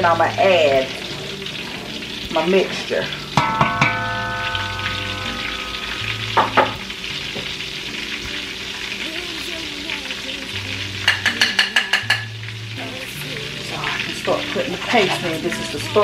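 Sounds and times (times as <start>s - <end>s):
shallots sizzling in oil: 0.0s - 16.0s.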